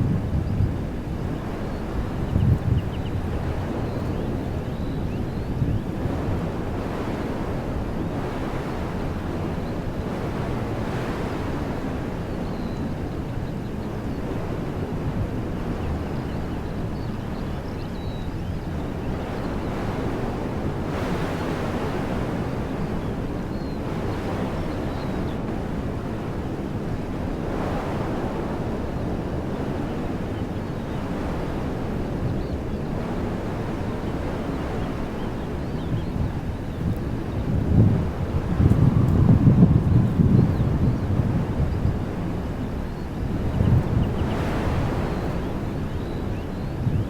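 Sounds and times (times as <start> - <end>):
wind rumble on microphone: 0.0 - 47.0
wind through trees: 0.0 - 47.0.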